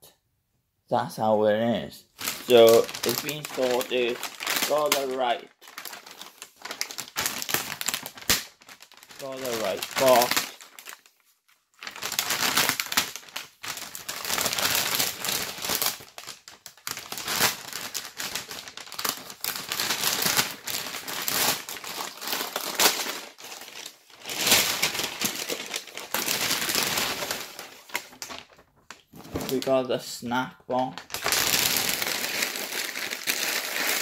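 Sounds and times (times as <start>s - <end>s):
packaging crinkling and rustling: 2.2s - 29.9s, 30.8s - 34.0s.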